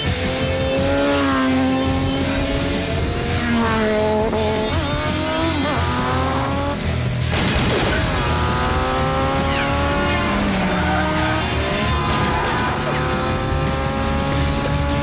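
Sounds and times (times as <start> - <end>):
background music: 0.0 - 15.0
motorcycle engines revving: 0.0 - 15.0.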